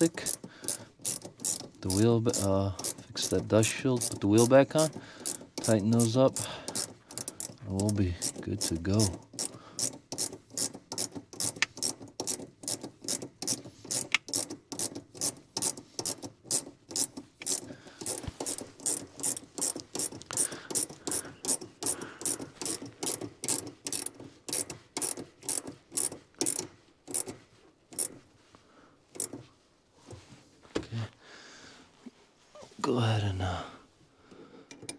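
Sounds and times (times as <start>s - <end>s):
ratchet wrench clicking: 0.0s - 28.2s, 29.1s - 29.4s.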